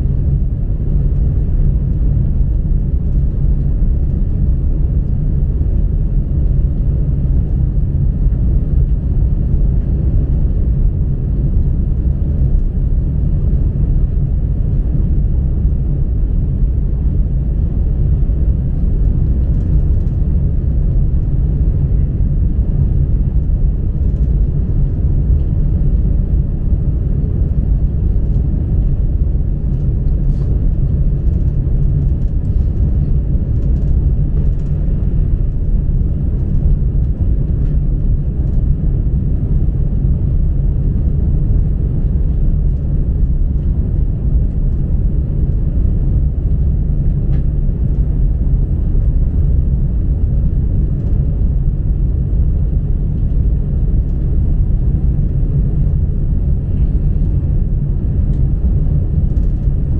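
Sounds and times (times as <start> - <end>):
train rumbling inside cabin: 0.0 - 59.9.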